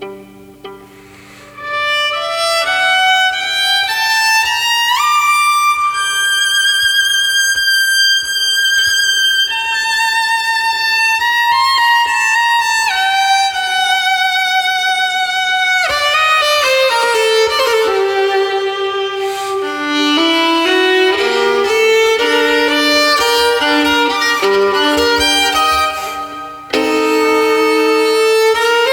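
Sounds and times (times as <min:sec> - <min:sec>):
solo violin playing: 0:00.0 - 0:28.9.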